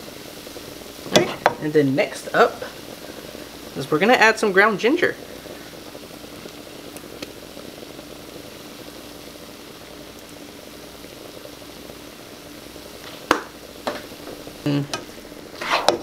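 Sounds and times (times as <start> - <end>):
rice sizzling in frying pan: 0.0 - 16.0.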